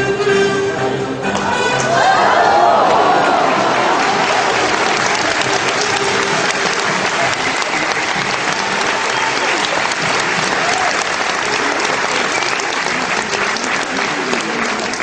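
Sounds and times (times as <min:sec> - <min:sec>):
faint crowd voices: 0:00.0 - 0:15.0
audience applauding: 0:01.8 - 0:15.0.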